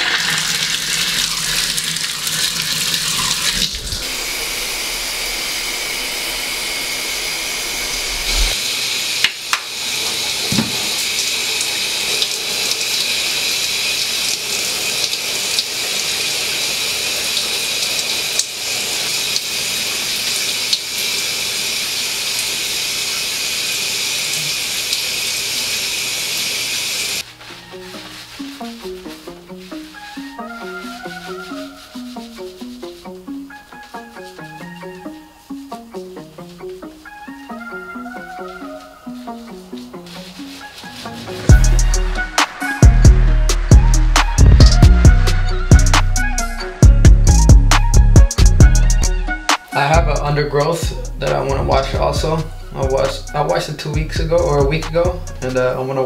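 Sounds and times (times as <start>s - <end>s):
shower water running: 0.0s - 56.0s.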